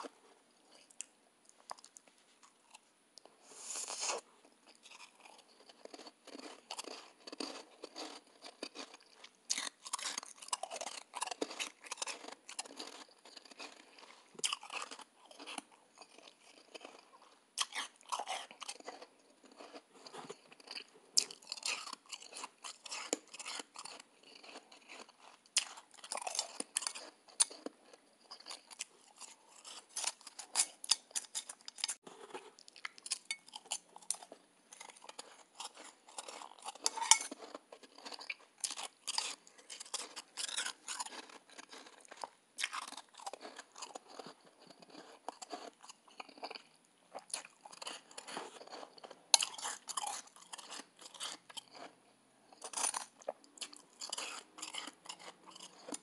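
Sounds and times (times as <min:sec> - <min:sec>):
person chewing crunchy ice: 0:03.6 - 0:56.0.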